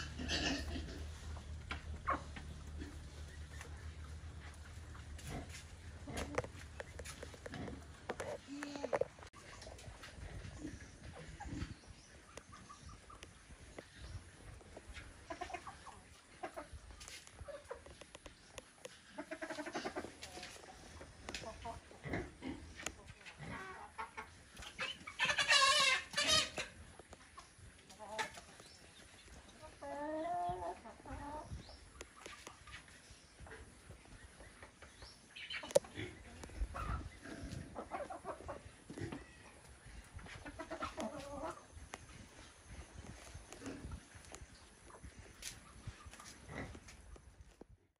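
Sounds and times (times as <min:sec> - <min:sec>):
chickens clucking softly: 0:00.0 - 0:47.6.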